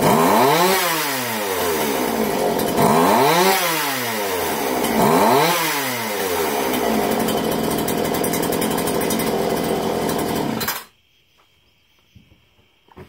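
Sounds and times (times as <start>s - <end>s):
chainsaw engine running and revving: 0.0s - 10.9s.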